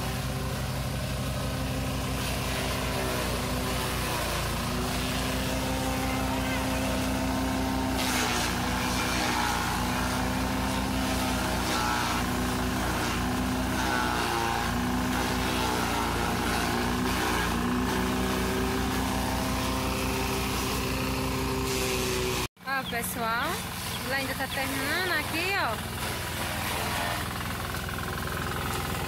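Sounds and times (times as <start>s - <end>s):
corn stalks being chopped: 0.0s - 22.5s, 23.8s - 29.0s
small engine running: 0.0s - 29.0s.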